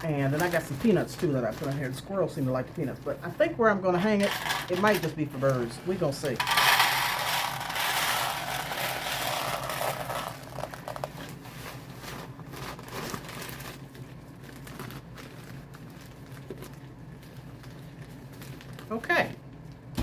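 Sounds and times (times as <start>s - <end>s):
bag crinkling: 0.0s - 3.2s, 4.2s - 19.0s.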